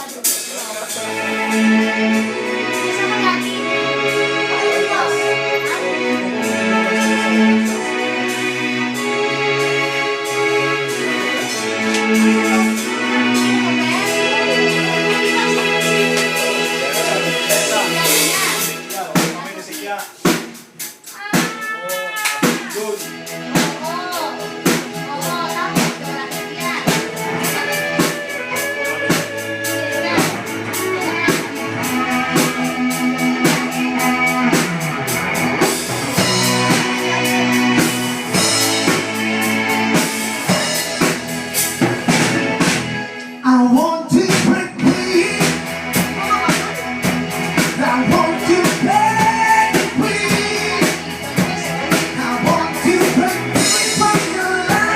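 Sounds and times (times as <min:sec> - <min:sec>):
pop rock song: 0:00.0 - 0:54.9.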